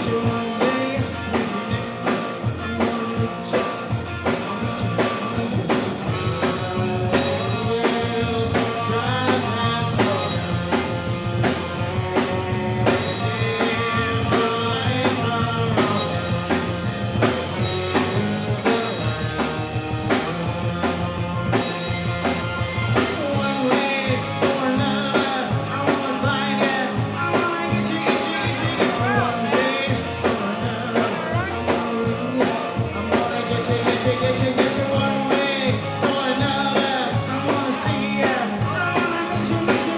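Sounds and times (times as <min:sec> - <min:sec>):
lead vocal singing: 0:00.0 - 0:22.0, 0:23.0 - 0:39.9
bass guitar: 0:00.0 - 0:39.9
drum kit beat: 0:00.0 - 0:39.9
electric guitar: 0:00.0 - 0:39.9
keyboard: 0:00.0 - 0:39.9.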